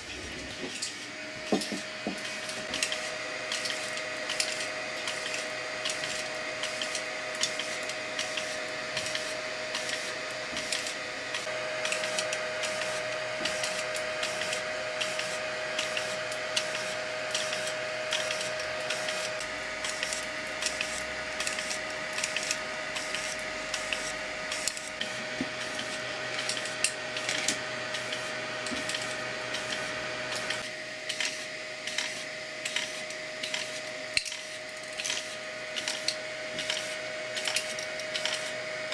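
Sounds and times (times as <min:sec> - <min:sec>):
stepper motor whine: 0:01.0 - 0:38.9.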